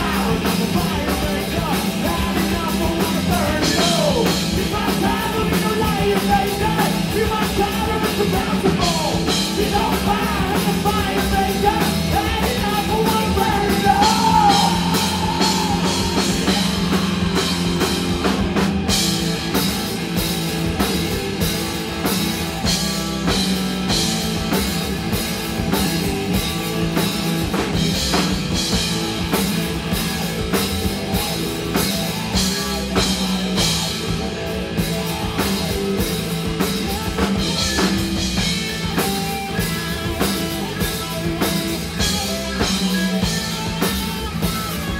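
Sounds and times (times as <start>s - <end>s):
driving drum-kit beat: 0.0s - 44.9s
electric guitars: 0.0s - 44.9s.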